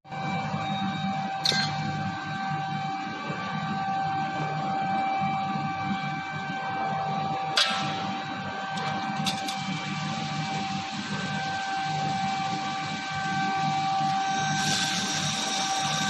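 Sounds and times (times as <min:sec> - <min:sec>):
laser machine whining: 0:00.1 - 0:16.0.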